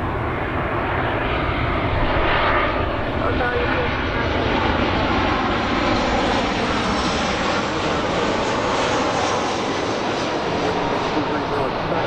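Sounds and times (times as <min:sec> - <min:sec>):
airplane engines roaring: 0:00.0 - 0:12.0.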